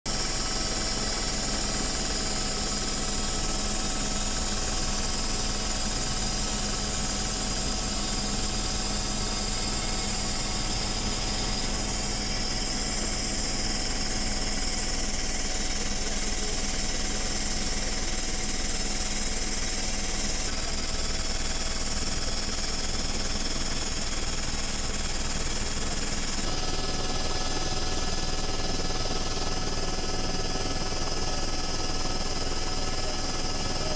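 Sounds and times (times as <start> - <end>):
helicopter engine and rotor noise: 0.1 - 33.9.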